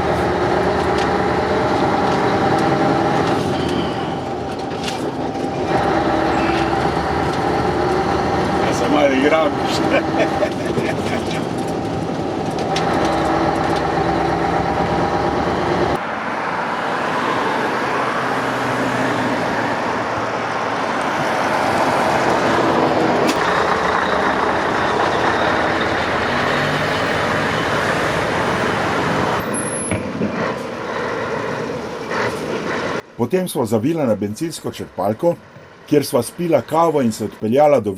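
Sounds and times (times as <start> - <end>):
road noise: 0.0 - 37.9
truck diesel engine drone: 0.0 - 37.9.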